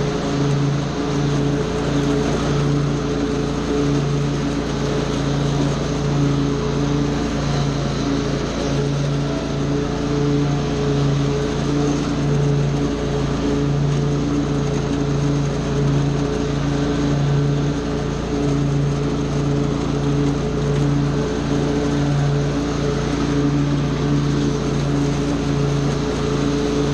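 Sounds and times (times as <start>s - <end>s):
small gasoline engine running: 0.0s - 26.9s.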